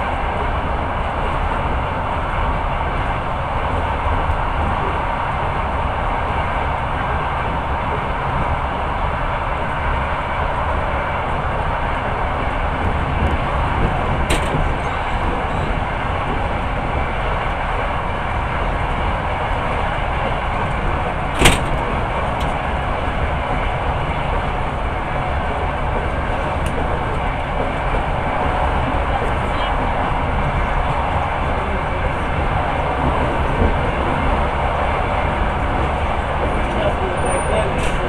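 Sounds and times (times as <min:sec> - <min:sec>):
train rumble inside carriage: 0:00.0 - 0:38.0.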